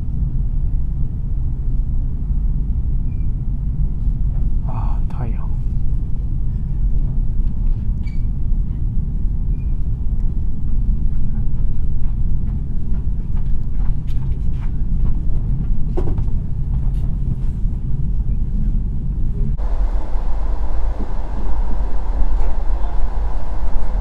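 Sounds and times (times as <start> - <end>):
train interior rumble: 0.0 - 24.0.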